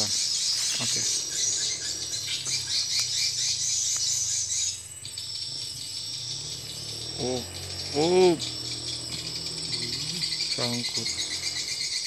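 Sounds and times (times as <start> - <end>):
faint high drone: 0.0 - 12.0
loud high insect buzz: 0.0 - 12.0.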